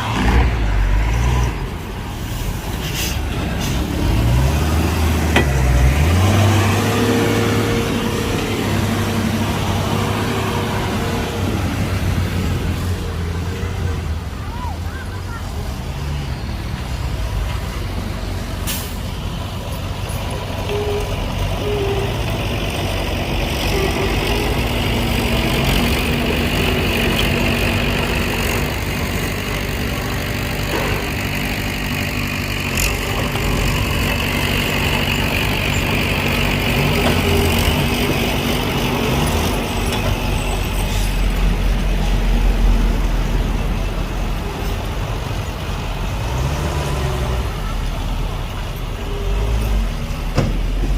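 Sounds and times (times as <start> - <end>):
heavy diesel engines running: 0.0 - 50.9.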